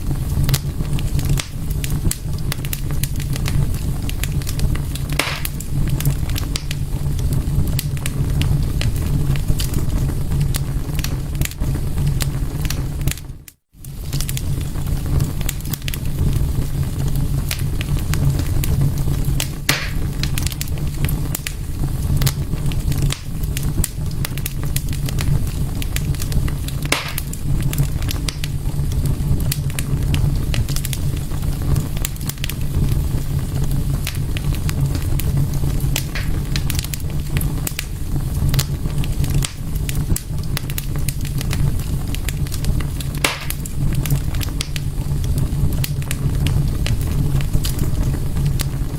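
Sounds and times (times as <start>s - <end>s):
fire pops and snaps: 0.0s - 48.9s
wood fire crackling: 0.0s - 48.9s.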